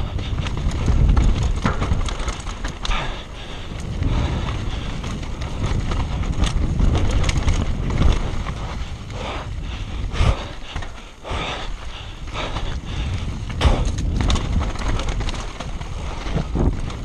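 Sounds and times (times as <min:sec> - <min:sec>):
bike knocking and rattling: 0:00.0 - 0:17.0
tyres on loose dirt: 0:00.0 - 0:17.0
wind rumbling on microphone: 0:00.0 - 0:17.0.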